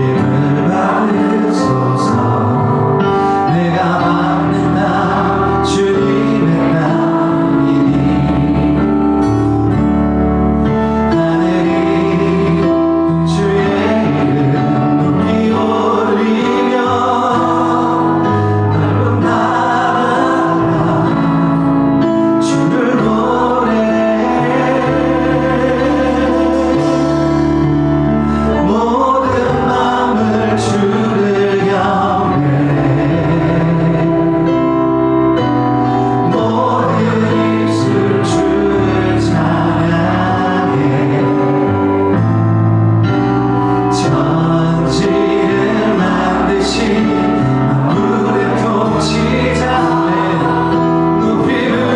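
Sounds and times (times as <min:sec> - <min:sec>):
congregation singing a hymn: 0:00.0 - 0:51.9
sustained instrumental accompaniment: 0:00.0 - 0:51.9.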